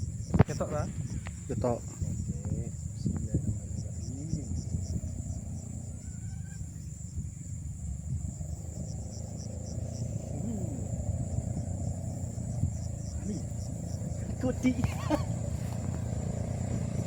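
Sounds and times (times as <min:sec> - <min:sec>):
crickets chirping: 0:00.0 - 0:17.0
irregular low rumble: 0:00.0 - 0:17.0.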